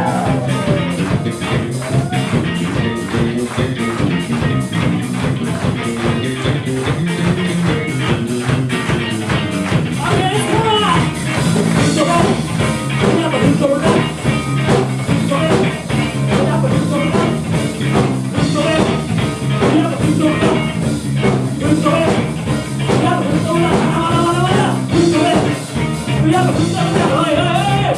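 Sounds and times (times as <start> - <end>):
bass guitar: 0.0 - 27.9
drum kit beat: 0.0 - 27.9
electric guitar: 0.0 - 27.9.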